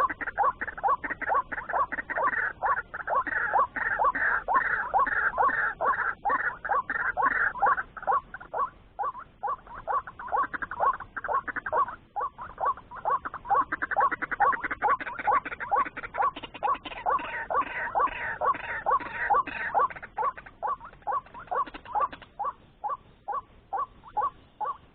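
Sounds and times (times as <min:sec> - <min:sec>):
waterhen calling: 0:00.0 - 0:24.9.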